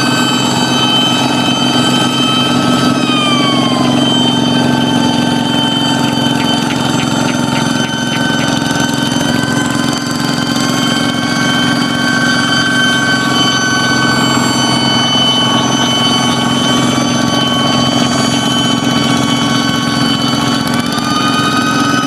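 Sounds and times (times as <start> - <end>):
diesel tractor engine running: 0.0 - 22.0
high jet-like whine: 0.0 - 22.0.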